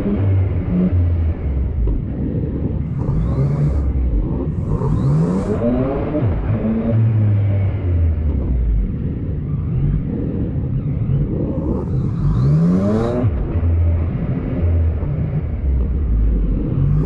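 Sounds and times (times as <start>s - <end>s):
motorcycle engine revving: 0.0s - 17.0s
road noise: 0.0s - 17.0s.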